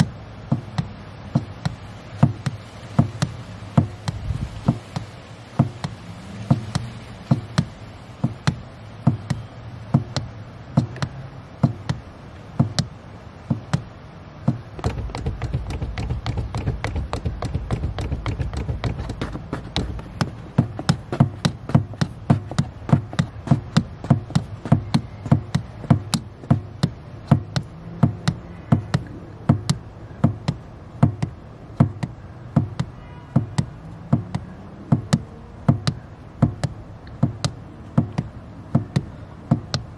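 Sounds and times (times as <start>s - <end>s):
accelerator pedal knocking: 0.0s - 39.9s.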